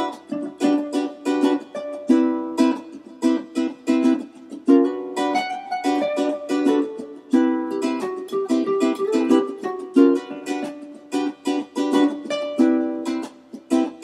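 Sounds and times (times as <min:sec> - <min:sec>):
plucked string instrument strumming: 0:00.0 - 0:14.0.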